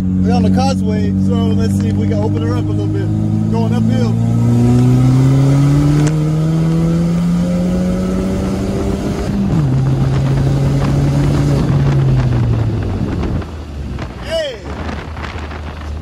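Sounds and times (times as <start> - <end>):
car engine at wide-open throttle: 0.0 - 16.0.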